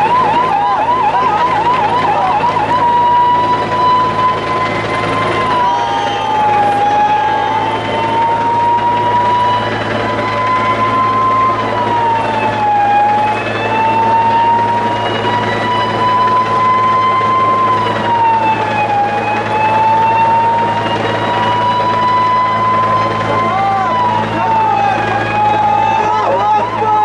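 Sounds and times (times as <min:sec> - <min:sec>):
helicopter hovering: 0:00.0 - 0:27.0
high whine rising and dropping: 0:00.0 - 0:27.0.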